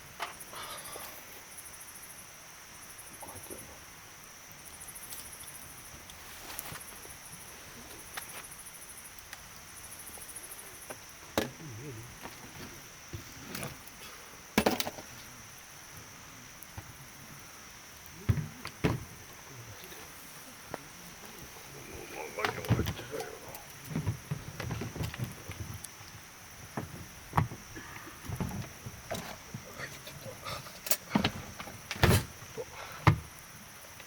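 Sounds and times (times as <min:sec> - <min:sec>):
high insect drone: 0:00.0 - 0:34.0
pulsed insect chirping: 0:00.0 - 0:34.0
campfire wood cracking: 0:00.1 - 0:34.0.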